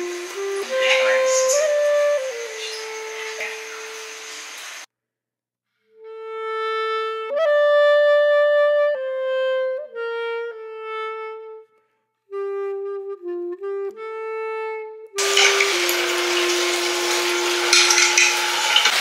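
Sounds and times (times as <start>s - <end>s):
slow solo melody: 0.0s - 4.2s, 6.0s - 18.9s.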